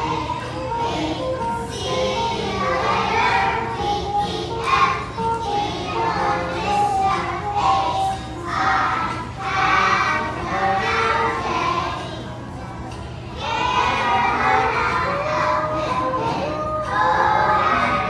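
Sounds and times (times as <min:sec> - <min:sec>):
children singing in unison: 0:00.0 - 0:12.6, 0:13.3 - 0:18.0.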